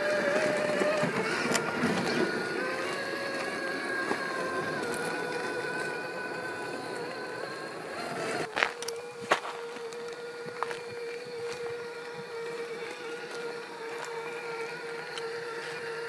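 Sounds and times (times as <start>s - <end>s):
electric toy truck motor whining: 0.0s - 16.0s.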